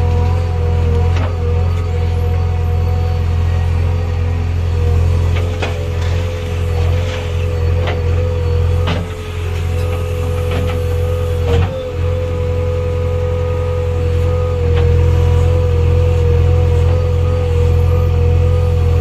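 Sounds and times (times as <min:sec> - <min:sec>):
diesel engine under load: 0:00.0 - 0:19.0
steady whine: 0:00.0 - 0:19.0.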